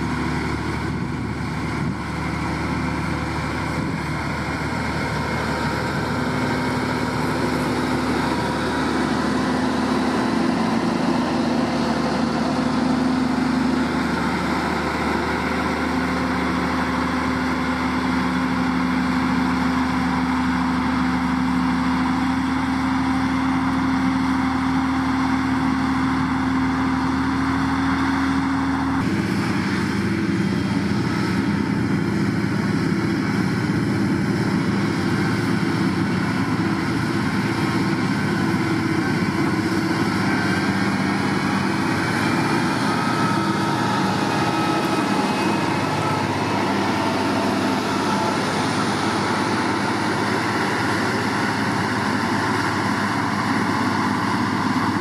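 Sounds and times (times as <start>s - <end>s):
grader diesel engine running: 0.0s - 55.0s.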